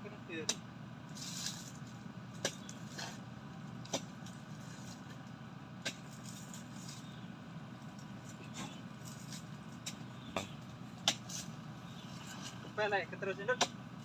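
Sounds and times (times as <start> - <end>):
pickup engine idling: 0.0 - 14.0
pole jabbing fruit bunches: 0.4 - 14.0.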